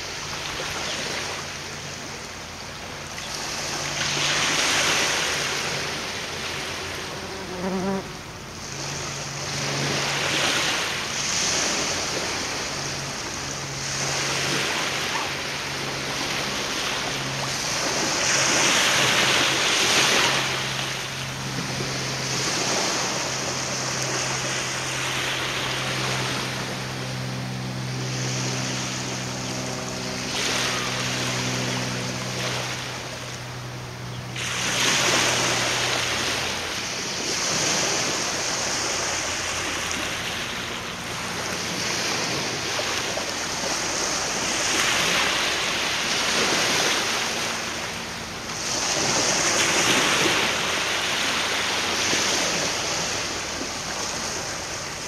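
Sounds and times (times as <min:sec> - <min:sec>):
waves washing on shore: 0:00.0 - 0:07.2, 0:08.2 - 0:55.0
boat engine hum: 0:00.0 - 0:55.0.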